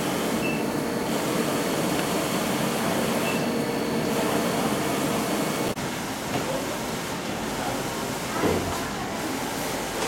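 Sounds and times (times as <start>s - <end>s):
printer machine and fan noise: 0.0s - 10.0s.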